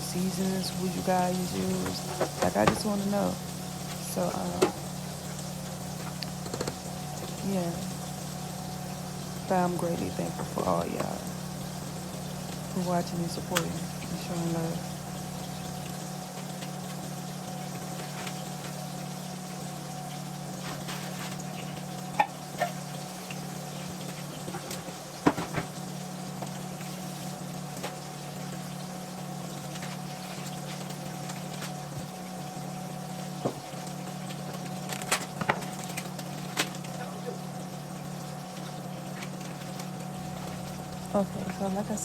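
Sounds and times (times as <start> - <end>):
kitchen hum with faint tone: 0.0 - 42.0.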